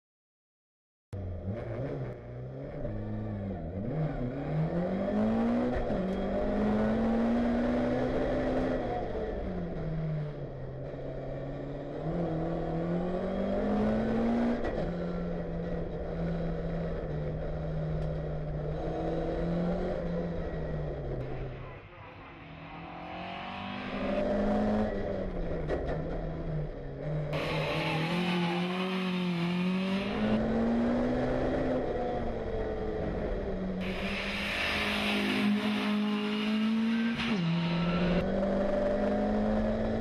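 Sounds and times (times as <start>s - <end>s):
racing car engine revving: 1.2s - 40.0s.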